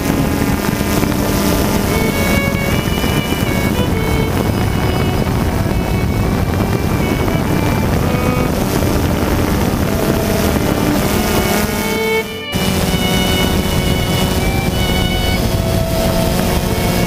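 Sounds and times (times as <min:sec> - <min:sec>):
drone motors buzzing: 0:00.0 - 0:17.0.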